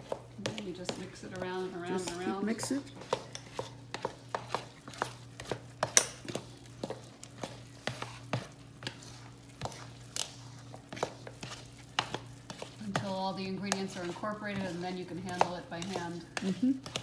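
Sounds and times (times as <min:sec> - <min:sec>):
dough stirred in metal bowl: 0:00.0 - 0:17.0
steady low hum: 0:00.0 - 0:17.0.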